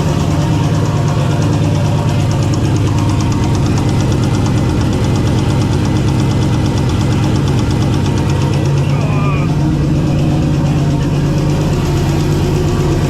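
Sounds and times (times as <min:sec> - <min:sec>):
engine knocking: 0:00.0 - 0:13.0.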